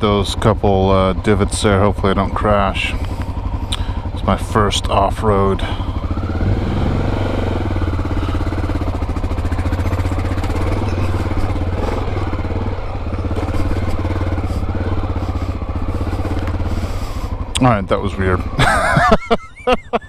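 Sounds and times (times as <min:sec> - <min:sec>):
motorcycle engine at low revs: 0:00.0 - 0:20.0.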